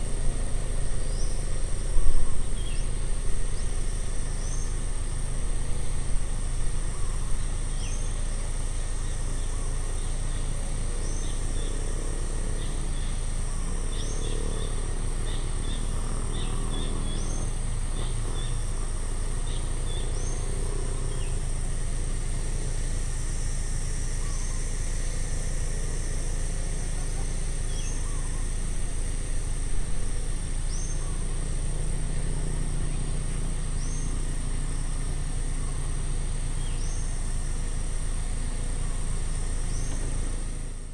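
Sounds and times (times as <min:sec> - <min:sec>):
insect hiss: 0:00.0 - 0:40.9.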